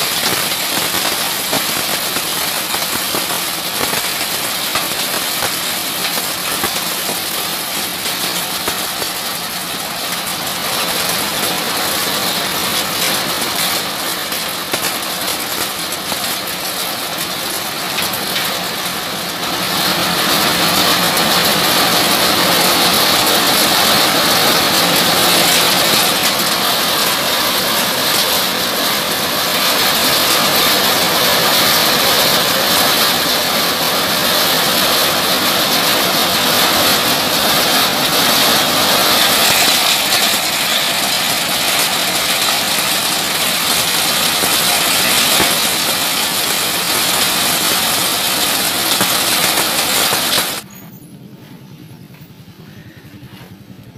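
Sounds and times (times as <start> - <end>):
grinding mill running: 0.0 - 50.7.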